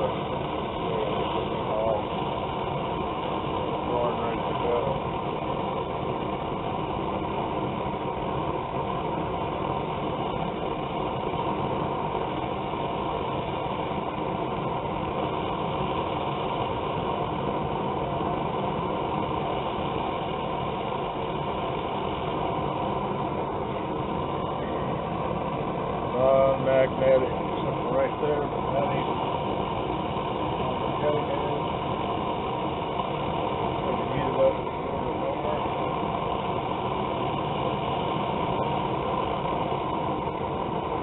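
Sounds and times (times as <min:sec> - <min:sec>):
gas forge burner running: 0:00.0 - 0:41.0.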